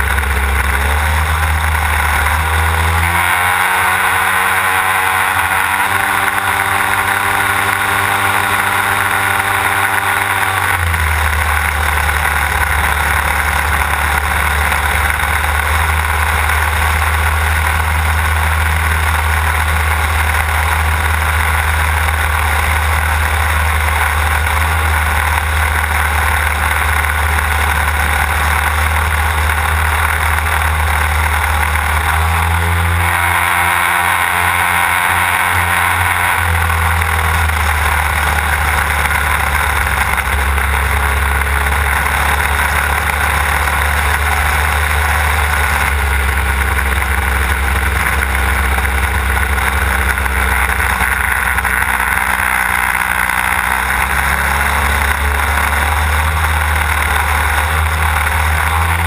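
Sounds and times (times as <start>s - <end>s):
model plane engine: 0.0s - 59.0s.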